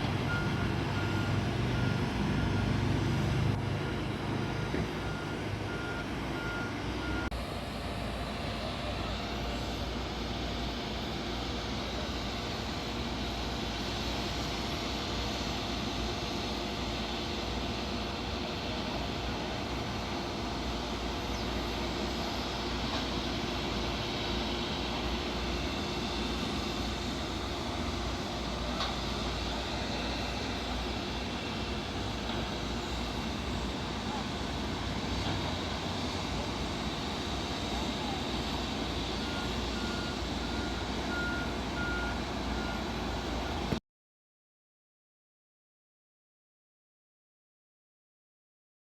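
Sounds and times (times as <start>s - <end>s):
jet engines running: 0.0s - 43.8s.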